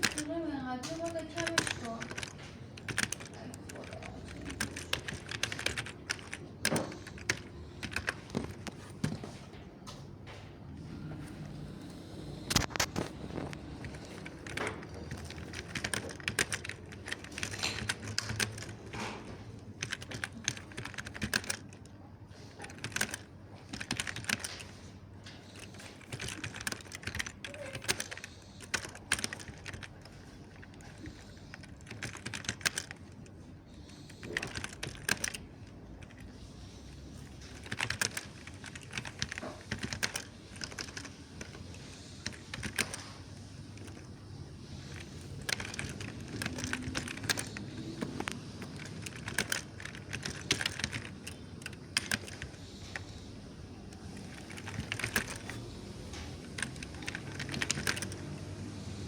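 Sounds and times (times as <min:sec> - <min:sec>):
mechanical keyboard typing: 0:00.0 - 0:09.4, 0:10.8 - 0:59.0.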